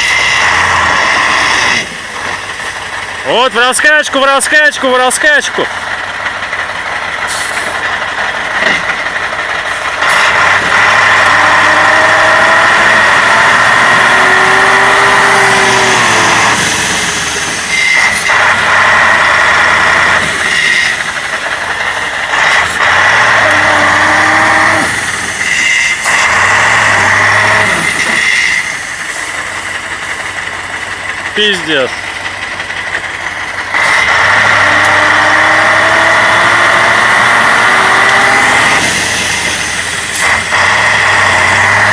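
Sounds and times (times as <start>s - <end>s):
truck diesel engine revving: 0.0s - 41.9s.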